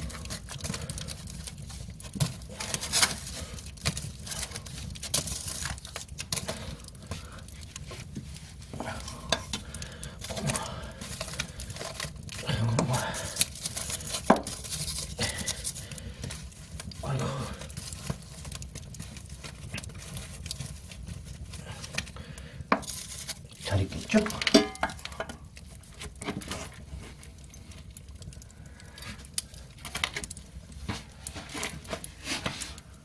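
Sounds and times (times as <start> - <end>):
scraping and knocking in firebox: 0.0 - 33.0
wood fire crackling: 0.0 - 33.0.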